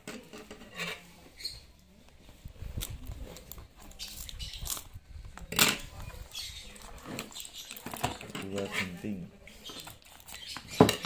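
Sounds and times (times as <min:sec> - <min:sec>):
cardboard and plastic rustling: 0:02.1 - 0:11.0.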